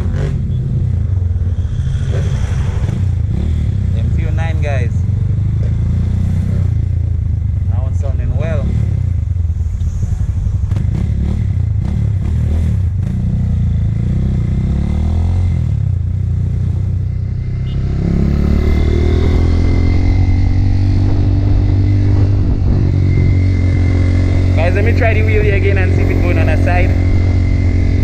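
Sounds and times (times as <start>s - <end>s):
motorcycle engine: 0.0s - 28.0s.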